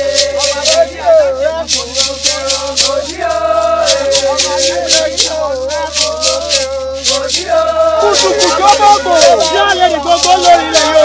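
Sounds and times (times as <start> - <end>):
shekere rattle shaken: 0.0 - 11.0
voices singing: 0.0 - 11.0.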